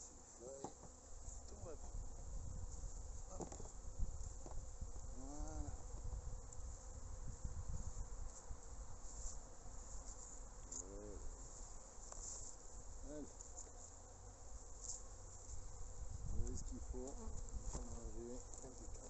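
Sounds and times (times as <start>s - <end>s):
bee flying close past: 0.0s - 19.0s
honeybees buzzing: 0.0s - 19.0s.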